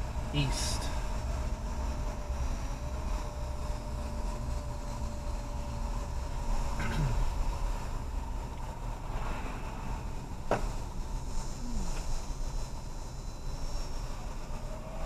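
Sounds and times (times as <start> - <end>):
car road and engine rumble: 0.0 - 15.0
faint steady tone: 0.0 - 15.0.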